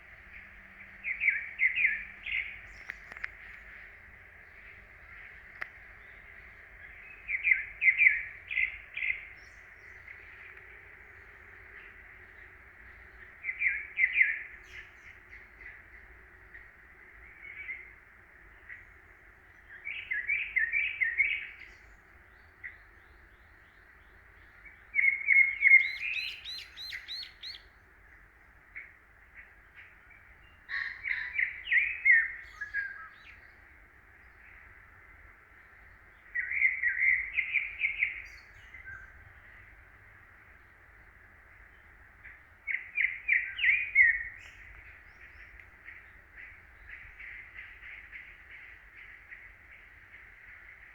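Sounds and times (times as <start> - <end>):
songbird chirping: 0.0 - 50.9.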